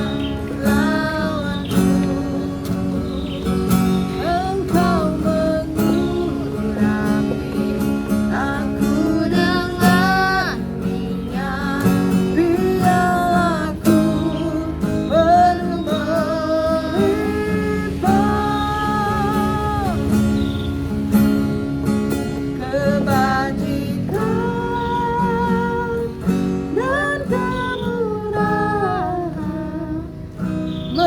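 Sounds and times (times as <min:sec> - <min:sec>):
acoustic guitar accompaniment: 0:00.0 - 0:31.0.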